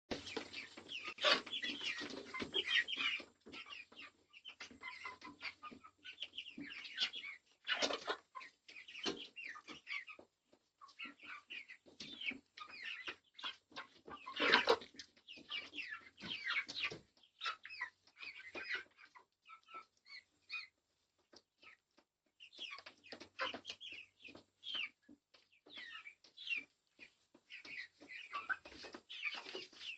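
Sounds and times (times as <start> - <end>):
chickens clucking: 0.1 - 29.9.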